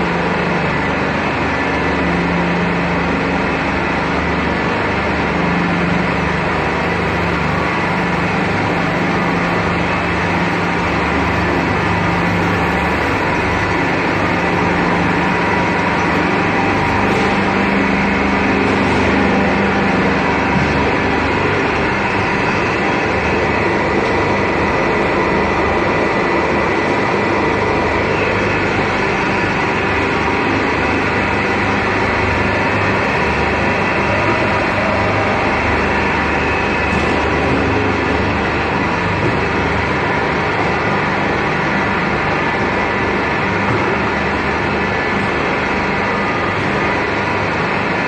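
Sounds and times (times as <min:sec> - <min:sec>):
factory machinery droning: 0:00.0 - 0:48.0.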